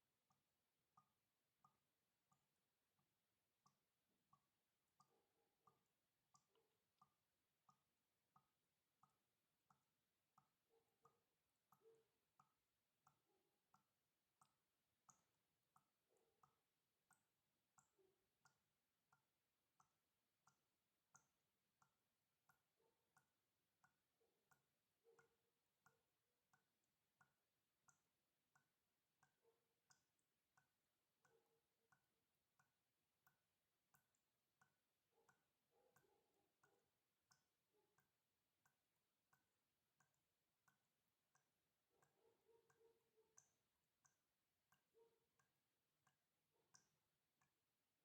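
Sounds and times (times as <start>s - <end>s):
water dripping: 0.0s - 48.0s.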